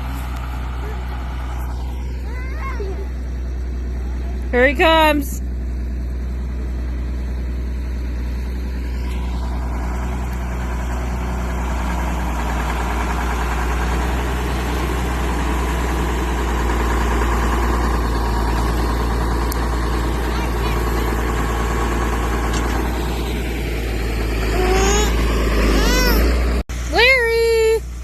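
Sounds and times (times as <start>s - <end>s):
road and cab noise: 0.0s - 28.0s
truck engine droning: 0.0s - 28.0s.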